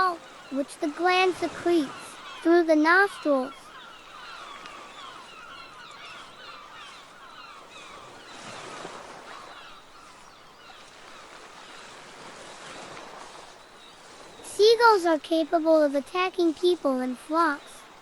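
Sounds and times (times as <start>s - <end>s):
gulls calling: 0.0s - 18.0s
surf: 0.0s - 18.0s.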